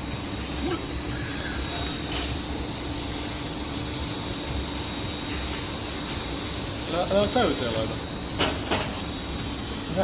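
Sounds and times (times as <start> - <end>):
machine humming with high whine: 0.0 - 10.0.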